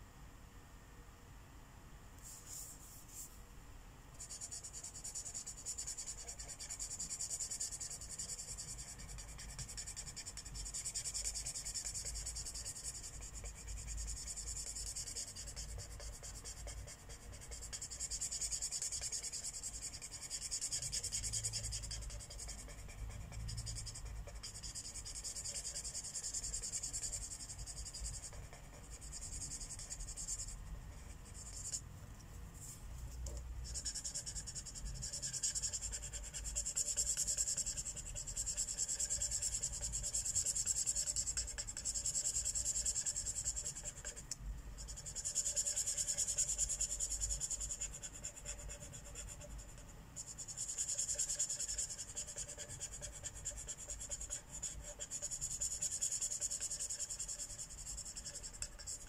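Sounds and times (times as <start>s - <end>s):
marker scratching on paper: 4.2s - 31.8s, 32.6s - 44.2s, 44.8s - 59.0s.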